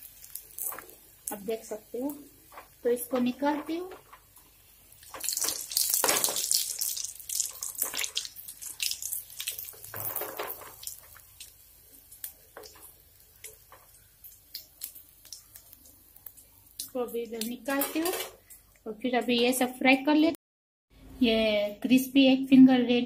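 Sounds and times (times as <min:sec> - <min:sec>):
oil hissing and crackling: 0:00.0 - 0:18.9.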